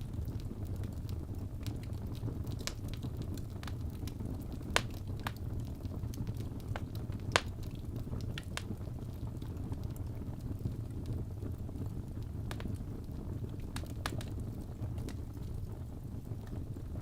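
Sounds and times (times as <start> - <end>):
fire crackles and pops: 0.0 - 17.0
low rumble of fire flames: 0.0 - 17.0.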